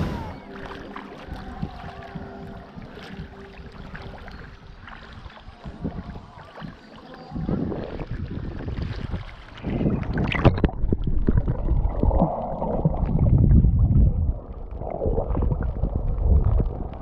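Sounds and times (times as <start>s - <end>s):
water sloshing and splashing: 0.0s - 17.0s
wind on microphone: 0.0s - 17.0s.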